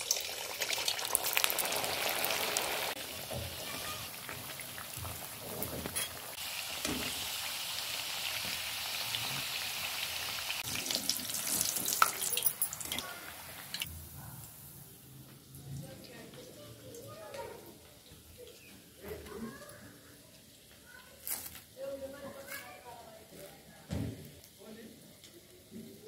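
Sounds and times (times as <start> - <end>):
food deep-frying in oil: 0.0 - 23.0.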